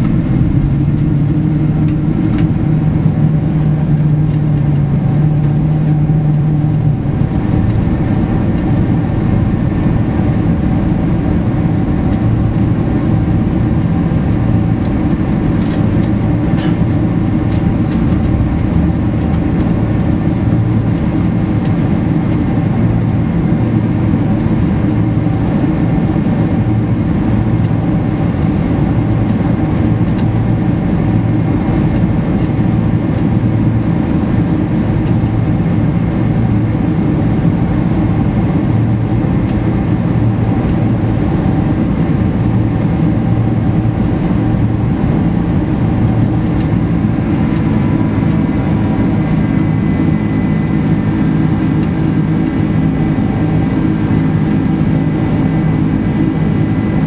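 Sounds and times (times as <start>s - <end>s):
jet engines roaring: 0.0s - 57.0s
low cabin hum: 0.0s - 57.0s.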